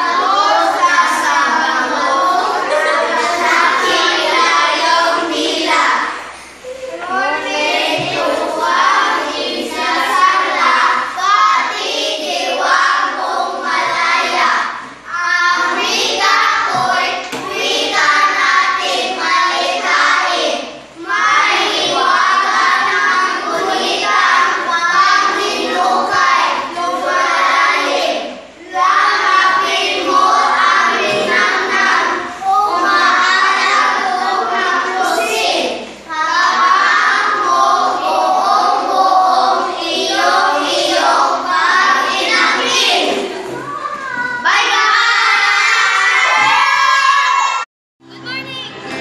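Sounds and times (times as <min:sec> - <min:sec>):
children singing in chorus: 0:00.0 - 0:47.6.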